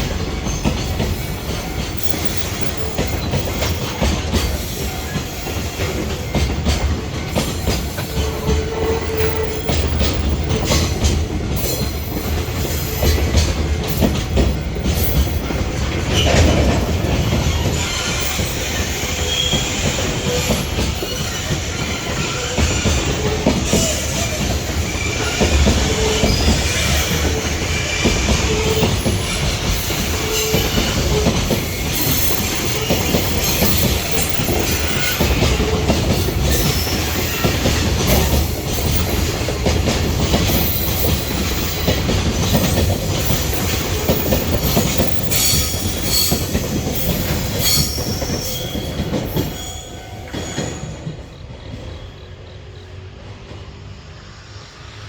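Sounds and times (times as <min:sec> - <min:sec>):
wheel squeals: 0:00.0 - 0:51.3
train wheels rumbling and clattering: 0:00.0 - 0:55.0.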